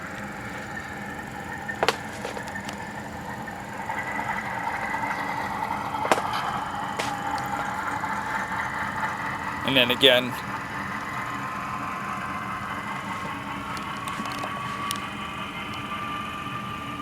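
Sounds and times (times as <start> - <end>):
diesel engine sound from small speaker: 0.0 - 17.0.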